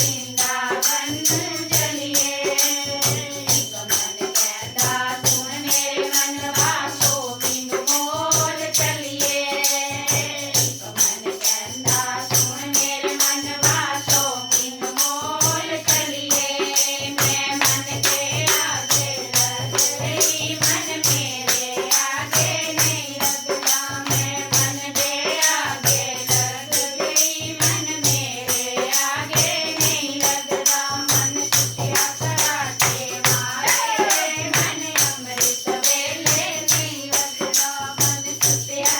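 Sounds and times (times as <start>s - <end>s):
hand-drum beat: 0.0s - 38.9s
jingling percussion: 0.0s - 38.9s.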